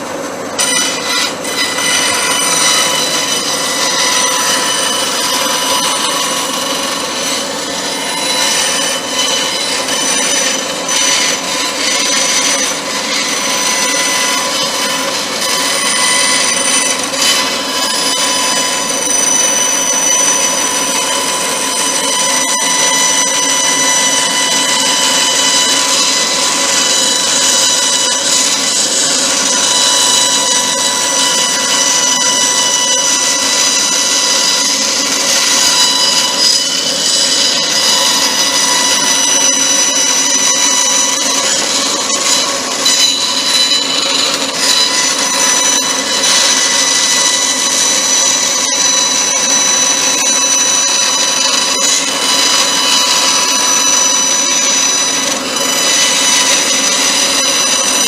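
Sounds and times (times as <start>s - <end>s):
power saw whining: 0.0s - 58.0s.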